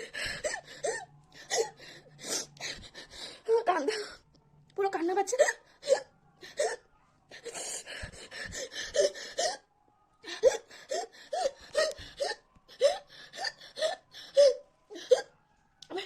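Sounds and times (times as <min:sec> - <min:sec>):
woman panting: 0:00.0 - 0:04.2, 0:05.4 - 0:09.6, 0:10.2 - 0:15.3.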